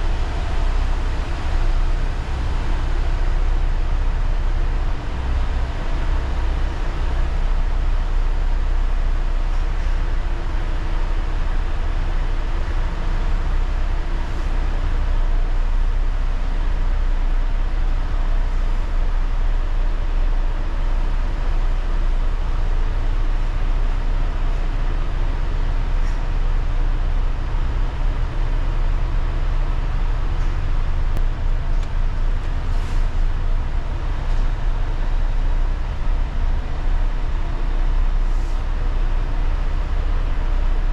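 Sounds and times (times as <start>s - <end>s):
heavy engine droning: 0.0s - 40.9s.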